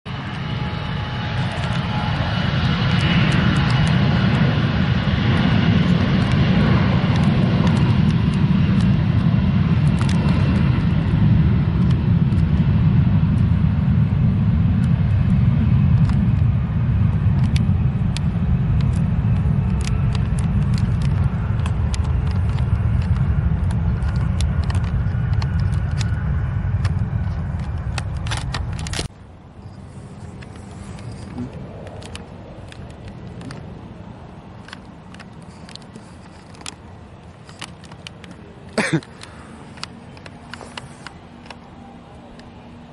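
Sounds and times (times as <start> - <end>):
aircraft engines rumbling: 0.1 - 42.9
high engine whine: 0.1 - 42.9.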